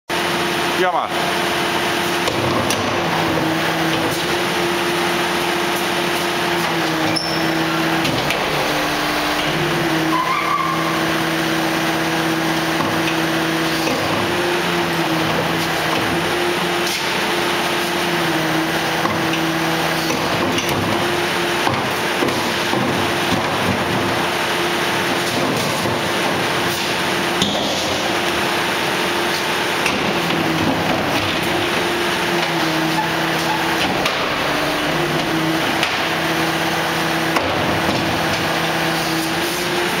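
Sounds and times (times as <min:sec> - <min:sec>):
hydraulic system humming: 0:00.1 - 0:40.0.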